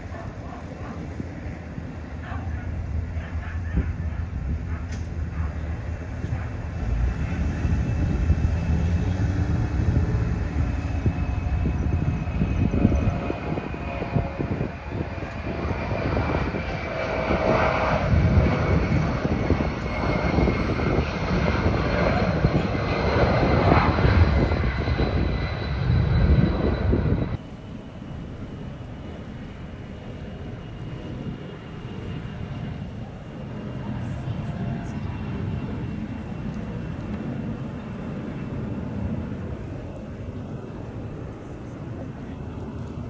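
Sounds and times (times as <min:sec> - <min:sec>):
jet aircraft rumble and whine: 0:00.0 - 0:43.0.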